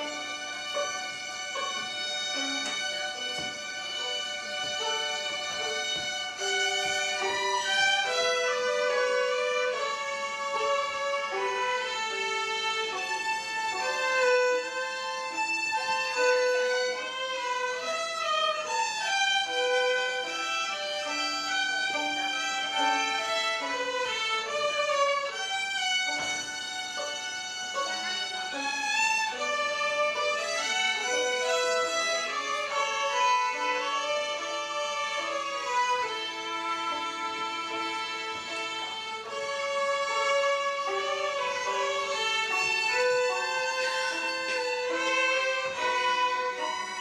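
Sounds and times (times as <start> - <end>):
violin ensemble playing melody: 0.0 - 47.0.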